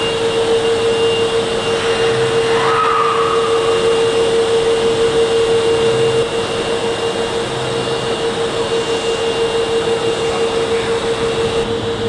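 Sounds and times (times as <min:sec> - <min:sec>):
train electrical whine: 0:00.0 - 0:12.0.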